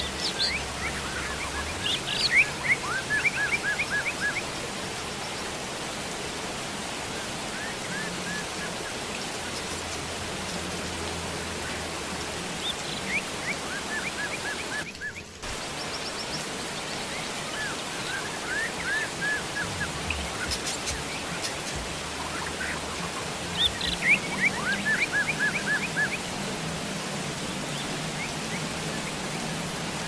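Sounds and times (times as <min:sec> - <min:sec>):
birds chirping: 0:00.0 - 0:30.0
steady rain hissing: 0:00.0 - 0:30.0.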